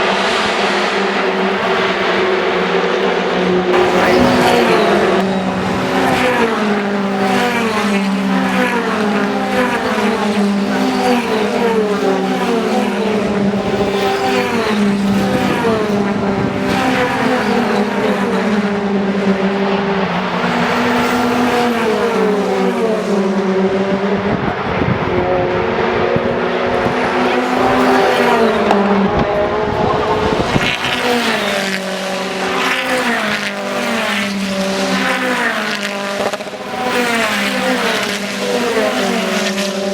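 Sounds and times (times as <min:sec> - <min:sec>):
racing car engines shifting gears: 0:00.0 - 0:39.9.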